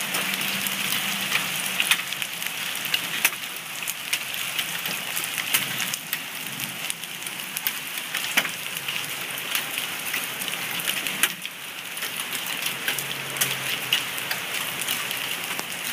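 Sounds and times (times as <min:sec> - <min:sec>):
hailstones ticking: 0:00.0 - 0:15.9.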